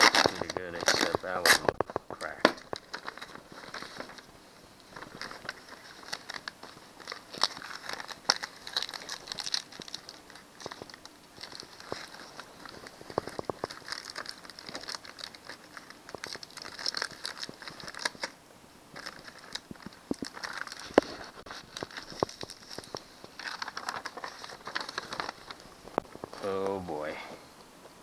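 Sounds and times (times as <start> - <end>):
paper crinkling and rustling: 0.0 - 27.1.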